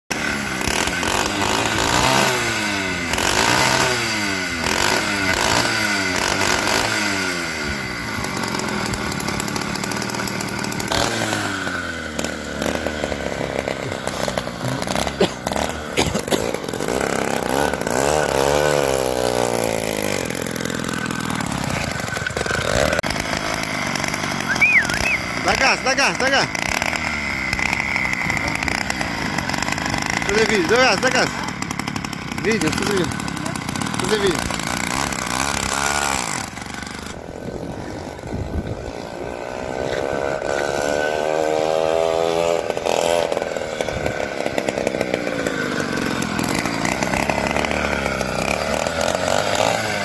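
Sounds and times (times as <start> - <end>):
two-stroke engine revving: 0.1 - 50.0.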